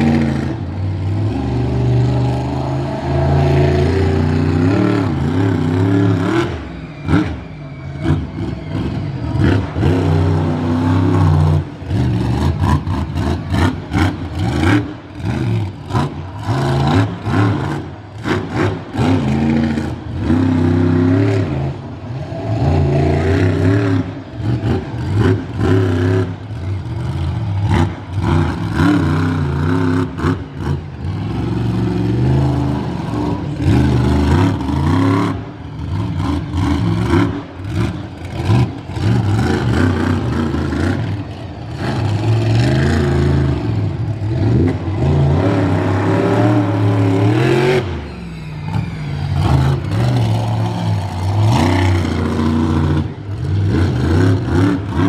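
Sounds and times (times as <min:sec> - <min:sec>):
monster truck engine revving: 0:00.0 - 0:55.0.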